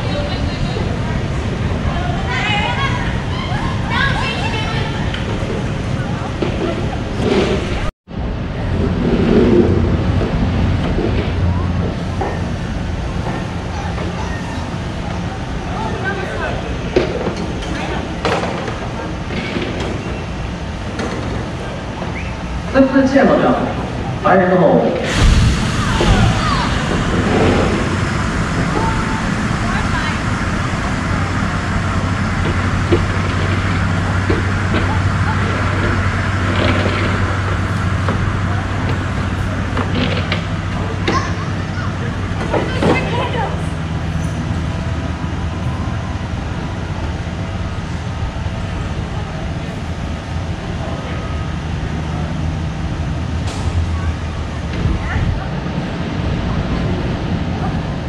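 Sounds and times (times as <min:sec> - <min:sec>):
low hum: 0:00.0 - 0:58.0
stage fire roaring: 0:00.0 - 0:58.0.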